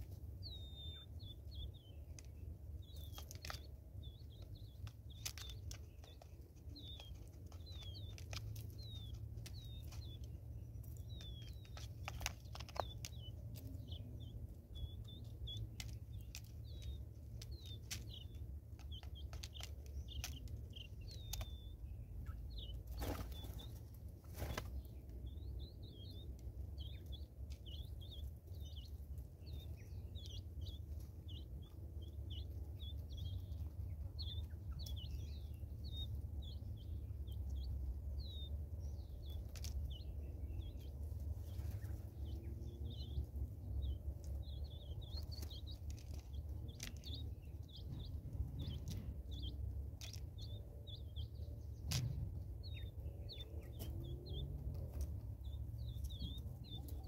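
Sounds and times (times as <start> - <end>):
small birds chirping: 0.0 - 57.0
steady low rumble: 0.0 - 57.0.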